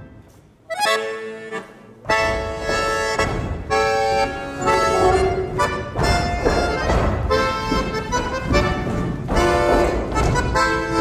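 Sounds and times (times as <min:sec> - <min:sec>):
button accordion chords: 0:00.0 - 0:11.0.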